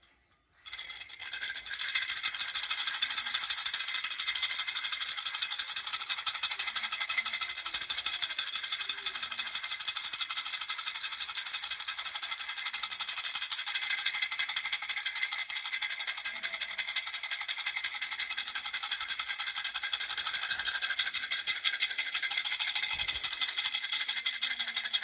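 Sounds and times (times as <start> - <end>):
baby rattle shaken: 0.5 - 25.0.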